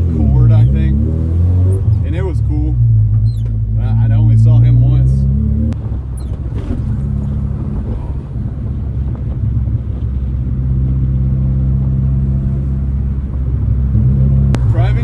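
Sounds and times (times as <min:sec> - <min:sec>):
car engine droning: 0:00.0 - 0:15.0
road noise: 0:00.0 - 0:15.0.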